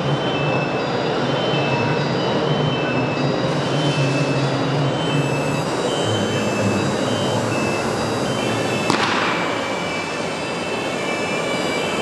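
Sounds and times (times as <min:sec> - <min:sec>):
exhibition hall machine noise: 0:00.0 - 0:12.0.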